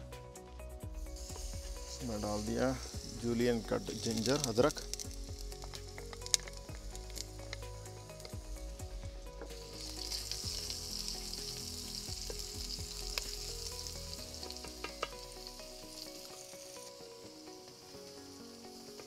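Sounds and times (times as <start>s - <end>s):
food sizzling in hot oil: 0.8s - 19.0s.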